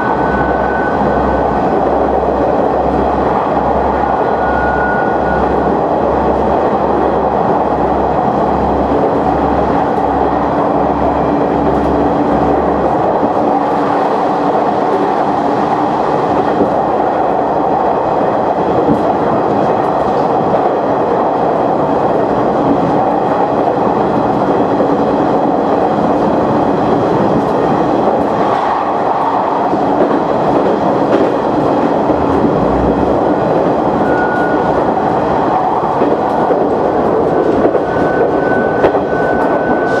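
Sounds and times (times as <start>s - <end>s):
railcar running noise: 0.0s - 40.0s.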